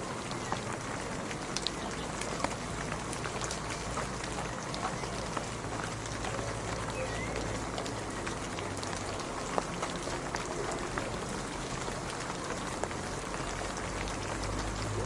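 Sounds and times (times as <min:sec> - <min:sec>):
raindrop ticks: 0:00.0 - 0:15.0
steady rain falling: 0:00.0 - 0:15.0.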